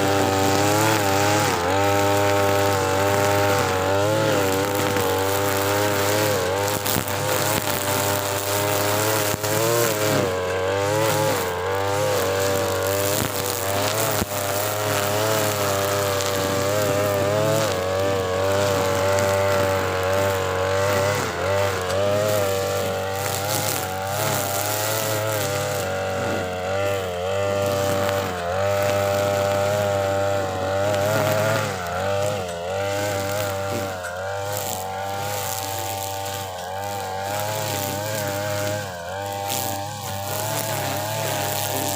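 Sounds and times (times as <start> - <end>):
brush cutter engine: 0.0 - 41.9.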